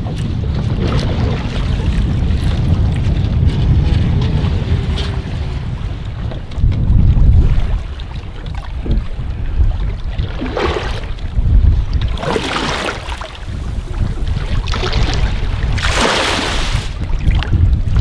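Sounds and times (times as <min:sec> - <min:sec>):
water splashing against boat: 0:00.0 - 0:18.0
wind rumbling on microphone: 0:00.0 - 0:18.0.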